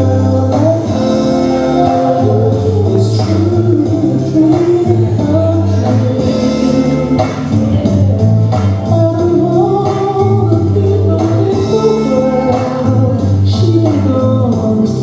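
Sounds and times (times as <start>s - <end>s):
dance song with singer: 0.0s - 15.0s.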